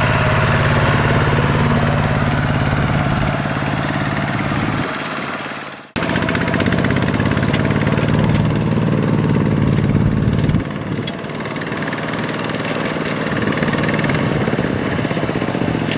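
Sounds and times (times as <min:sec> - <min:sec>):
diesel tractor engine running: 0:00.0 - 0:15.9.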